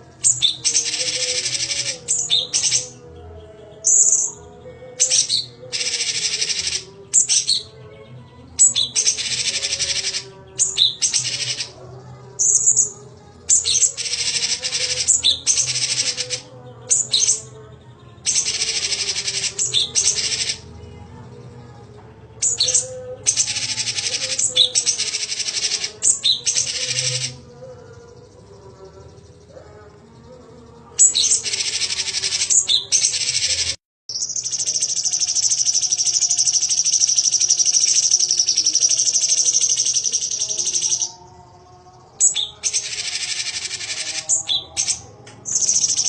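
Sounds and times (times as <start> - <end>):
songbird chattering song: 0.0 - 46.0.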